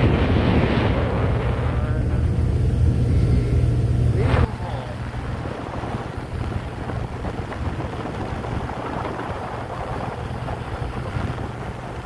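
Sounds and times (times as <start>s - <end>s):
motorboat engine rumbling: 0.0s - 12.0s
wind buffeting microphone: 0.0s - 12.0s.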